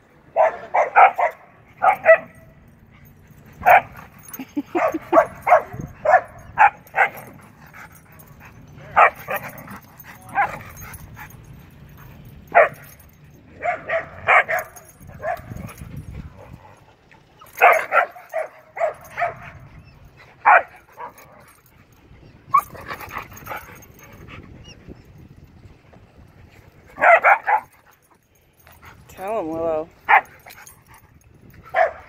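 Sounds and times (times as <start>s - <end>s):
dogs barking and yipping: 0.3s - 25.6s, 26.5s - 32.0s.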